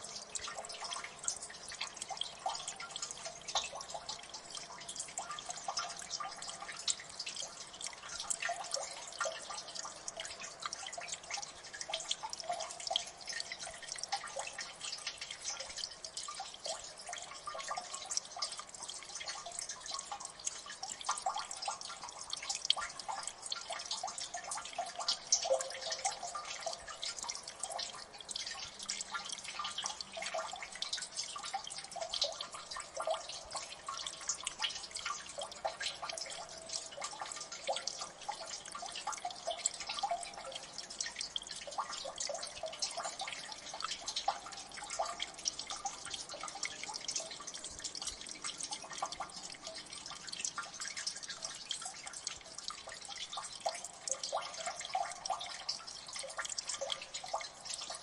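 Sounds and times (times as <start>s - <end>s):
water dripping in a gully: 0.0s - 58.0s.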